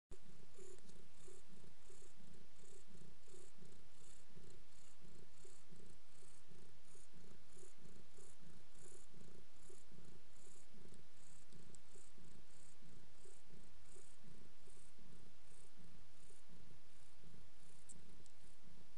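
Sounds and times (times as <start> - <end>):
cat purring: 0.1 - 18.9.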